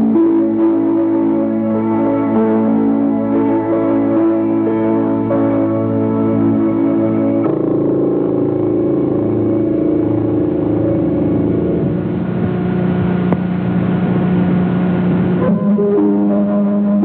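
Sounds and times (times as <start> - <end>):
music of long held chords: 0.0 - 17.0.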